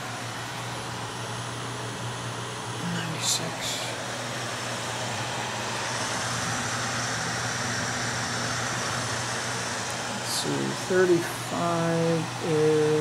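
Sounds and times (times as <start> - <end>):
electric fans whirring: 0.0 - 13.0
low motor hum: 0.0 - 13.0.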